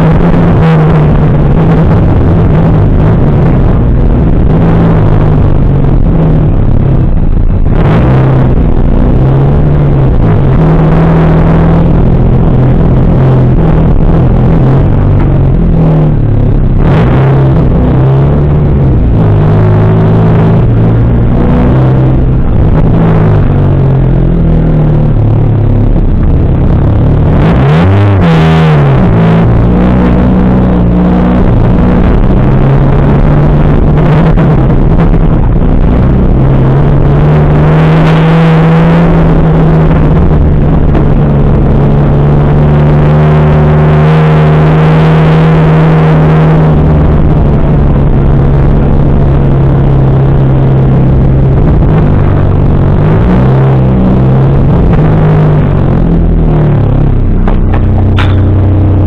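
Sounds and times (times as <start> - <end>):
loud car engine: 0.0 - 59.0.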